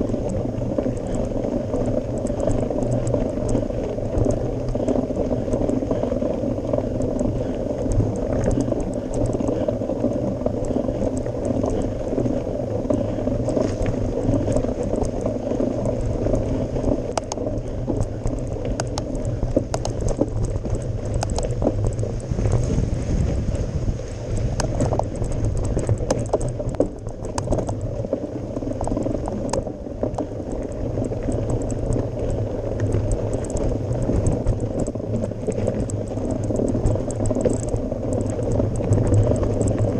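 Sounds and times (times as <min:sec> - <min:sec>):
bike tyres rumbling on gravel: 0:00.0 - 0:39.9
stones and bike rattling: 0:00.0 - 0:39.9.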